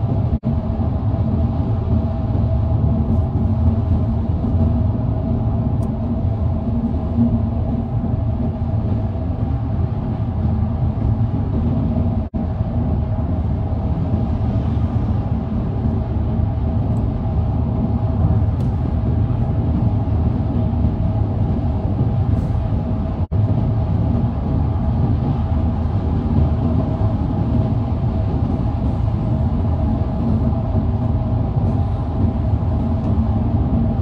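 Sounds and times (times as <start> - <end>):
road and engine rumble in car: 0.0 - 34.0.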